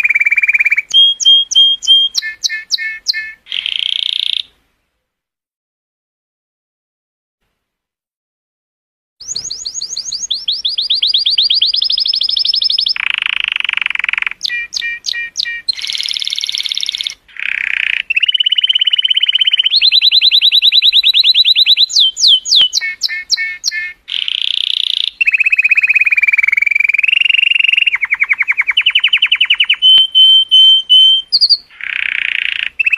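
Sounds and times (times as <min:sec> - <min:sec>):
canary singing trills: 0:00.0 - 0:04.6, 0:09.2 - 0:32.9.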